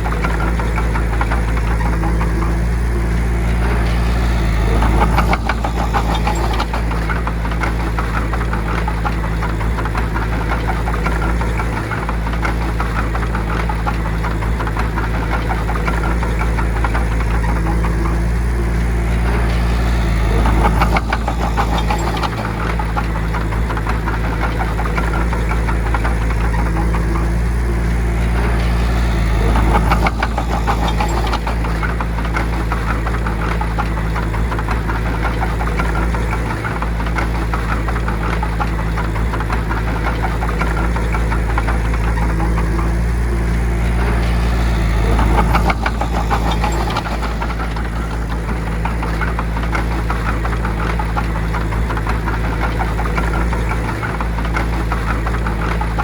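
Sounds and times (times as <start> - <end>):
bulldozer diesel engine clattering: 0.0 - 56.0.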